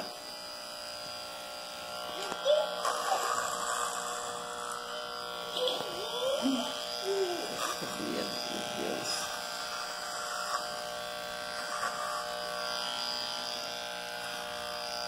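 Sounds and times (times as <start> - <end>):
electric hair clipper humming: 0.0 - 15.0.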